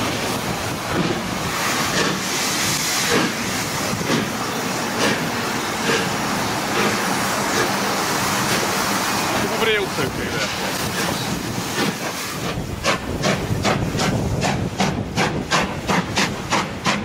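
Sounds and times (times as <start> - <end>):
moving train noise: 0.0 - 17.0
steam locomotive exhaust beats: 0.0 - 17.0.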